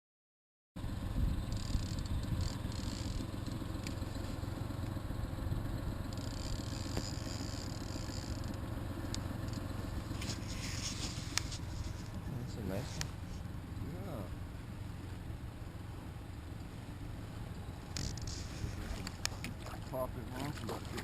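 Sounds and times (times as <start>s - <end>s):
boat motor rumbling: 0.8s - 21.0s.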